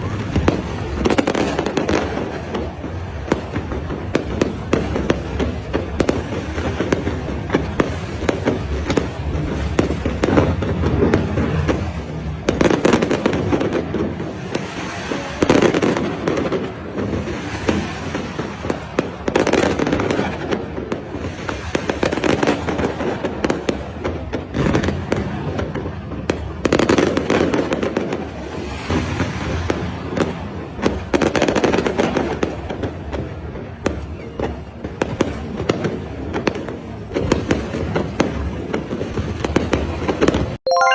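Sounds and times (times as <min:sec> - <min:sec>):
fireworks crackling: 0:00.0 - 0:40.9.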